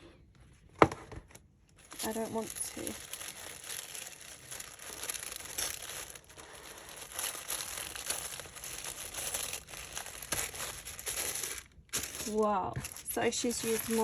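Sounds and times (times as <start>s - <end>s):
tissue paper crinkling: 1.8s - 14.0s.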